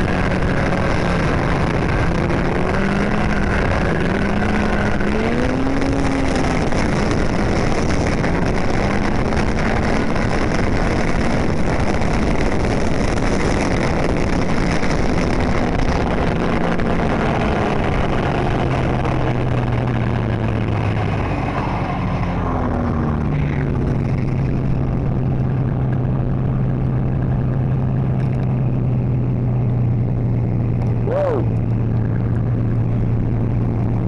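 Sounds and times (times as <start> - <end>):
snowmobile engine running: 0.0 - 34.0
track noise: 0.0 - 34.0.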